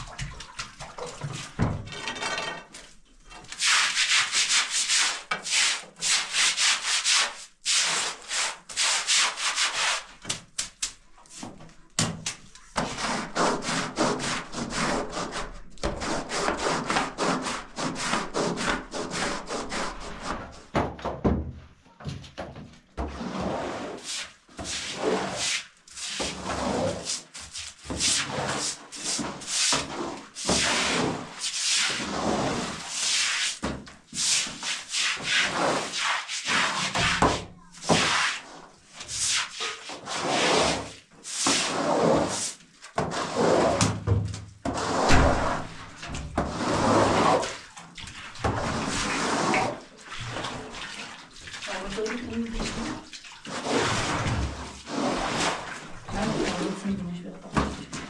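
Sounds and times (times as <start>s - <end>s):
straw brooms scrubbing wet floor: 0.0s - 20.7s, 23.0s - 58.0s.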